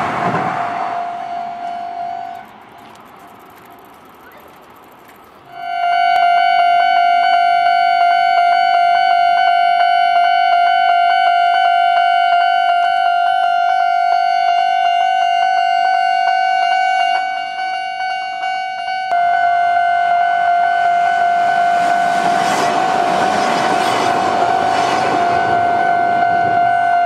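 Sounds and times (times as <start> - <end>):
level crossing warning bell: 0.0 - 27.0.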